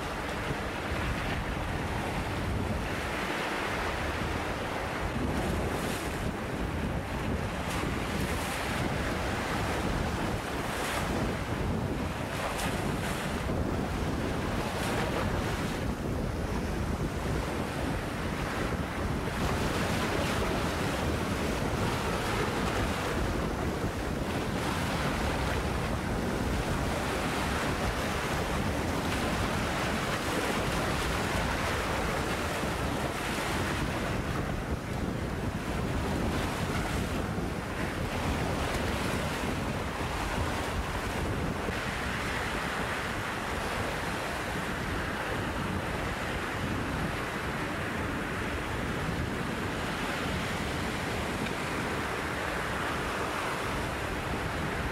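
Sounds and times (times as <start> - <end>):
waves washing over boulders: 0.0 - 54.9
wind gusting on microphone: 0.0 - 54.9.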